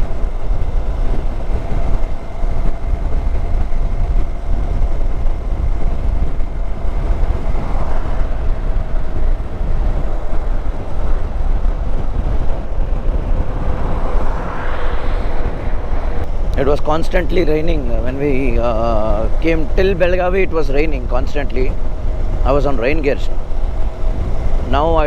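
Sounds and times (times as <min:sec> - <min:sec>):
motorcycle engine droning: 0:00.0 - 0:25.0
wind buffeting microphone: 0:00.0 - 0:25.0.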